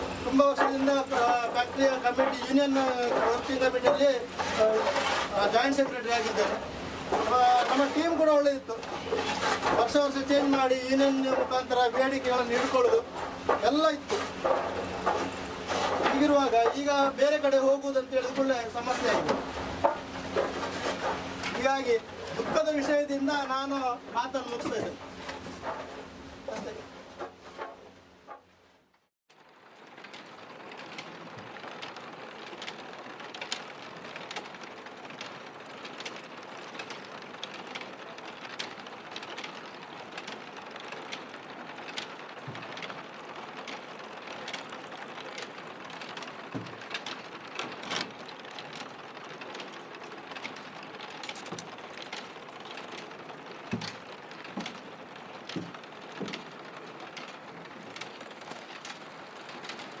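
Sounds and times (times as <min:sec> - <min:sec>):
machinery rattling and clicking: 0:00.0 - 0:28.5, 0:29.3 - 1:00.0.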